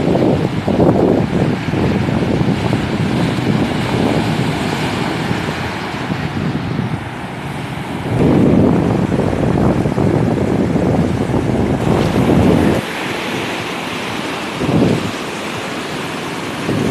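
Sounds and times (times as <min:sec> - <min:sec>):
ocean surf breaking: 0:00.0 - 0:16.9
wind buffeting microphone: 0:00.0 - 0:16.9.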